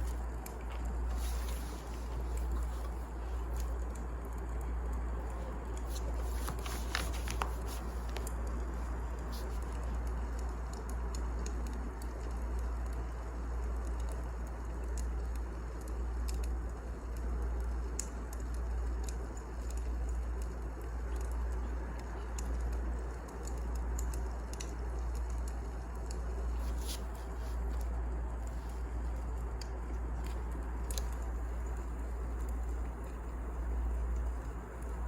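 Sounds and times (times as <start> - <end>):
fire rumbling and hissing: 0.0 - 35.0
wood fire crackling and popping: 0.0 - 35.0.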